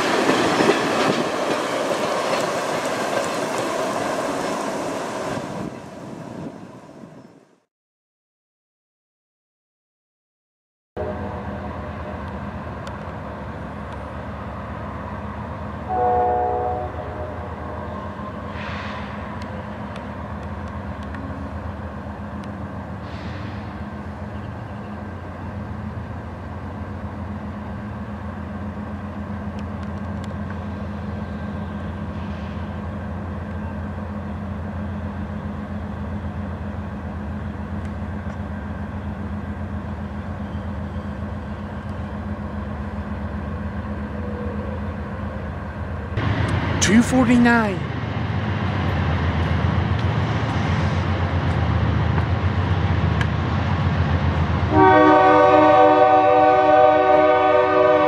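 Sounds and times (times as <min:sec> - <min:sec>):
diesel locomotive engines droning: 0:11.0 - 0:58.0.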